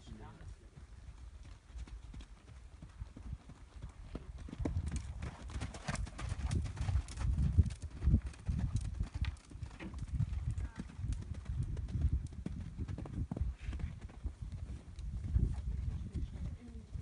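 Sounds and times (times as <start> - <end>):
horse hoofbeats on sand: 0.8 - 17.0.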